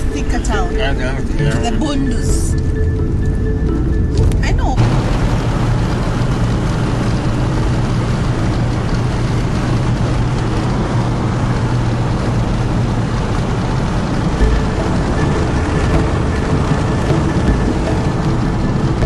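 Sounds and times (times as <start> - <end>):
vehicle tyre and engine noise: 0.0 - 19.0.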